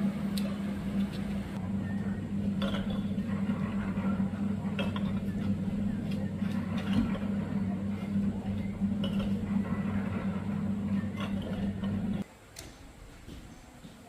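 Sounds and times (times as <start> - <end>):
motor humming: 0.0 - 12.2.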